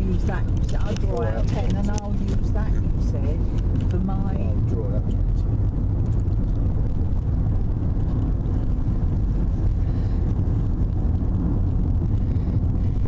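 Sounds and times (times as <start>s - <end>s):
car cabin low rumble: 0.0s - 13.0s.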